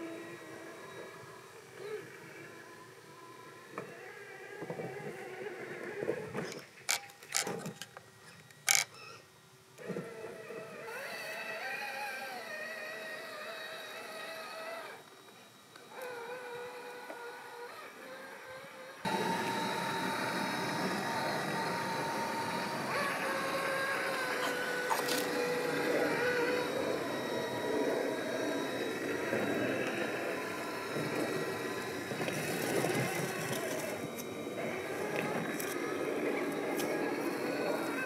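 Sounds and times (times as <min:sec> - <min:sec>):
electric motor and drivetrain whining: 0:00.0 - 0:38.0.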